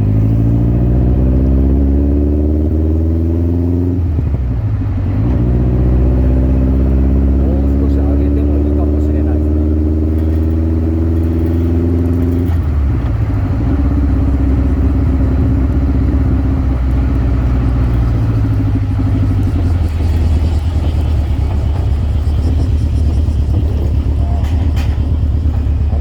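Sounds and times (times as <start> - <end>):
sports car engine running: 0.0 - 26.0.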